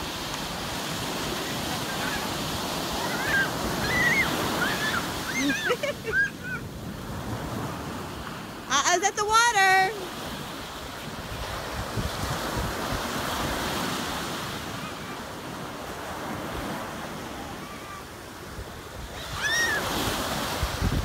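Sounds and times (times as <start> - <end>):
ocean surf breaking on shore: 0.0 - 21.0.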